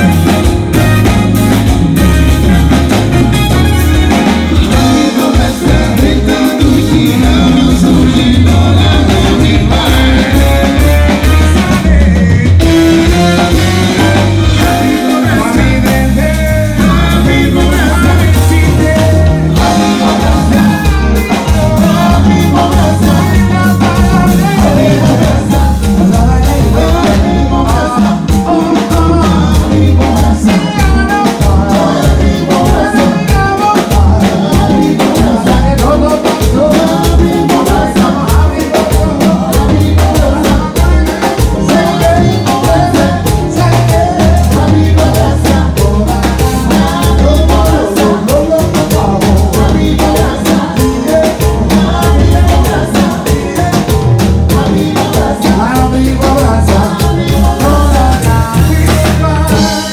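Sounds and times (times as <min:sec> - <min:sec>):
bass guitar: 0:00.0 - 0:59.9
drum kit: 0:00.0 - 0:59.9
keyboards: 0:00.0 - 0:59.9
person singing: 0:00.0 - 0:59.9.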